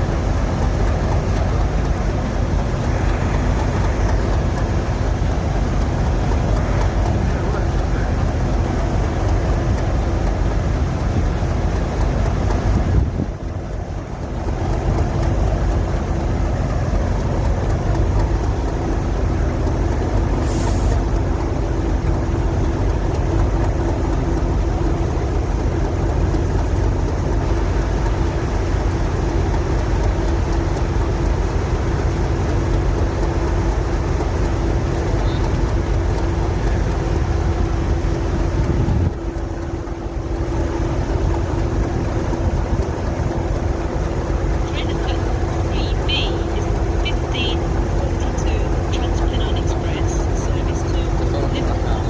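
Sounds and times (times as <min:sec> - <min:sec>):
train rumbling and humming: 0:00.0 - 0:52.0.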